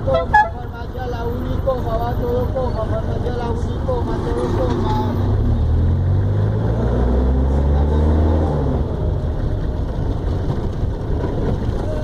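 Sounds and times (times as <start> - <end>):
minibus engine revving: 0.0 - 11.8
road rumble: 0.0 - 12.0.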